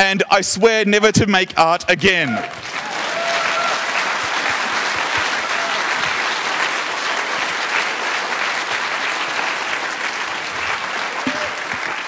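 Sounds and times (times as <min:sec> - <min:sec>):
audience applauding: 0:02.1 - 0:12.0.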